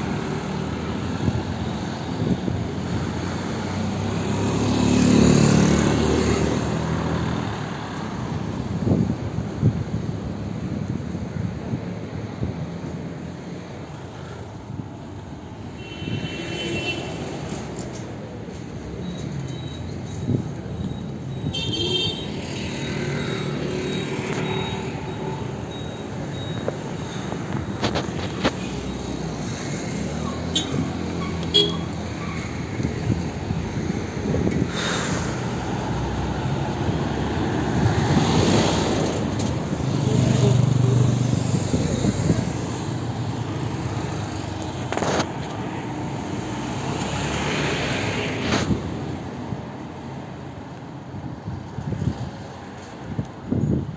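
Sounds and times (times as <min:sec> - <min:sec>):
cars and scooters passing: 0:00.0 - 0:53.9
vehicles driving past: 0:00.0 - 0:53.9.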